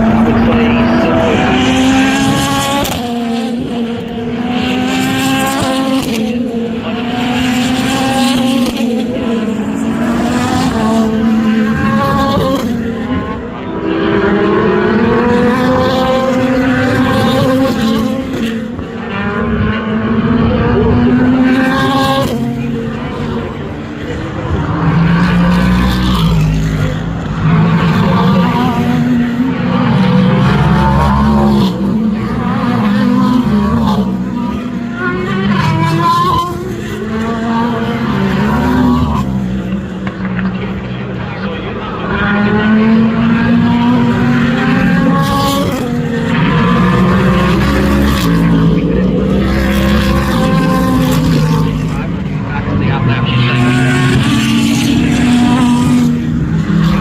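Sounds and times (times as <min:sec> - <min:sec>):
race car engines passing: 0:00.0 - 0:57.0.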